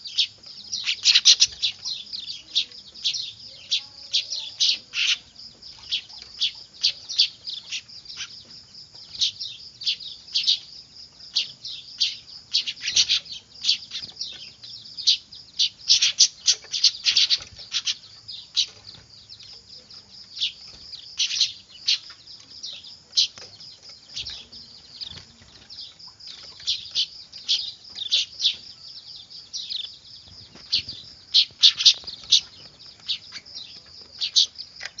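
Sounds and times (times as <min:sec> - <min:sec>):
bird chicks chirping: 0:00.0 - 0:35.0.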